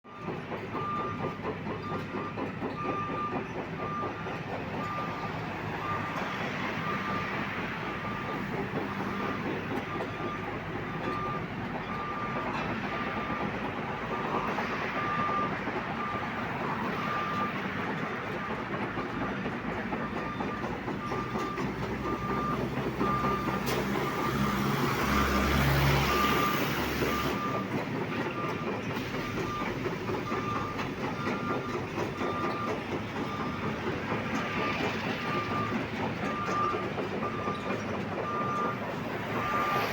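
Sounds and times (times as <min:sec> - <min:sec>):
excavator engine running: 0:00.1 - 0:39.9.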